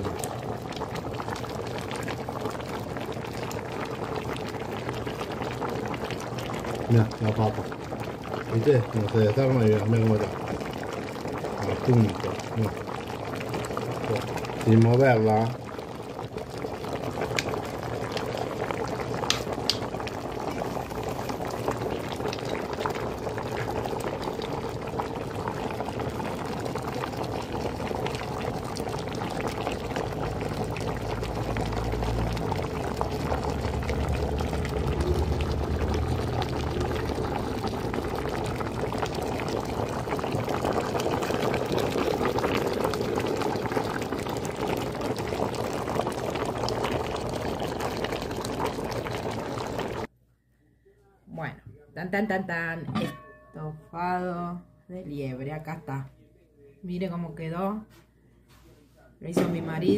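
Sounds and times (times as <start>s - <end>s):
stew bubbling in a pot: 0.0s - 50.1s, 59.3s - 59.9s.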